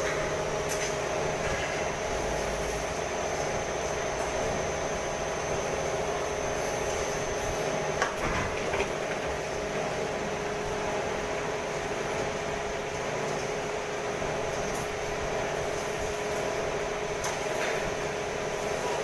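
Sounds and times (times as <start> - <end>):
injection moulding machines humming: 0.0 - 19.0.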